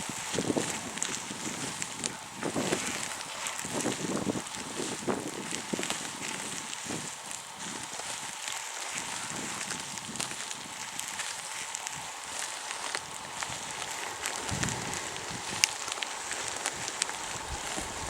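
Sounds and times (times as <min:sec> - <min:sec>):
small crackles and ticks: 0:00.0 - 0:18.0
steady hiss: 0:00.0 - 0:18.0
wind rumbling on microphone: 0:00.0 - 0:18.0.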